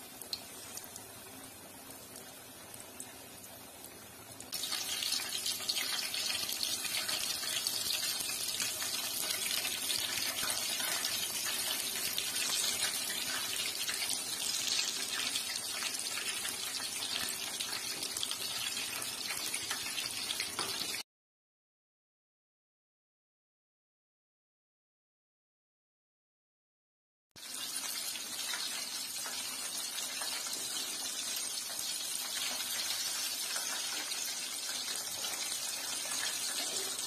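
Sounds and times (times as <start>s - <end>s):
chicken deep-frying sizzle: 0.0s - 21.0s, 27.4s - 37.0s.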